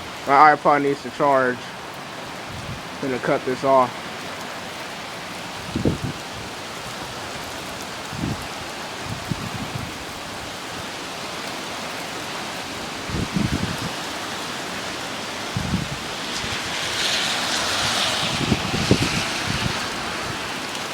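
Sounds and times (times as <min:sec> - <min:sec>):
heavy rain hissing: 0:00.0 - 0:20.9.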